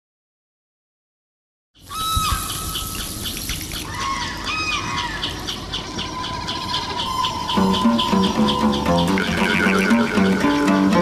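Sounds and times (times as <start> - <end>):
bird drawn-out calls: 1.8 - 11.0.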